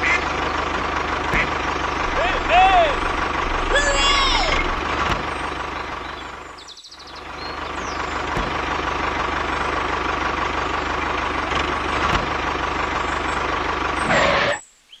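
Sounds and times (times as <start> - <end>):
constant whine: 0.0 - 14.6
tractor engine running: 0.0 - 14.6.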